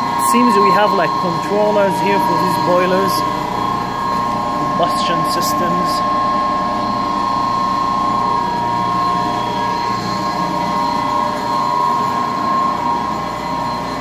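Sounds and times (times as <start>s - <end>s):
boiler machinery hum: 0.0s - 14.0s
constant high whine: 0.0s - 14.0s.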